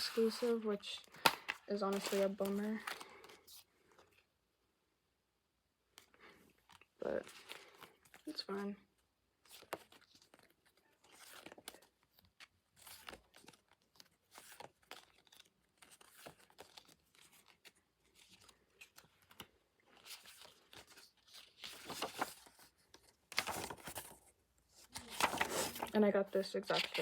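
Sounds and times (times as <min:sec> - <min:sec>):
paper and plastic rustling: 0:00.0 - 0:04.3, 0:06.0 - 0:08.7, 0:09.4 - 0:27.0.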